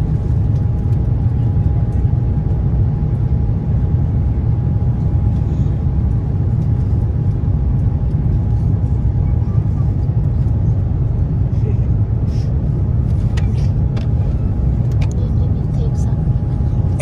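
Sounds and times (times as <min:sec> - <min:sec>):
aircraft engines rumbling: 0:00.0 - 0:17.0.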